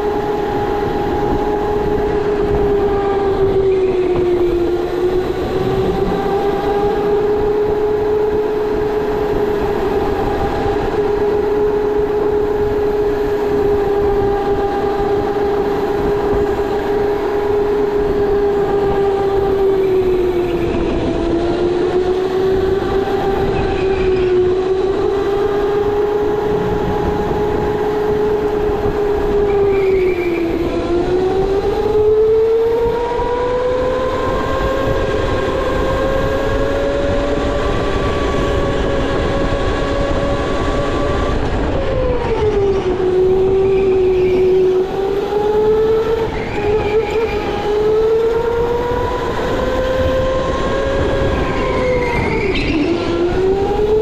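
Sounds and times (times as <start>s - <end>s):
electric go-kart motor whining: 0.0s - 54.0s.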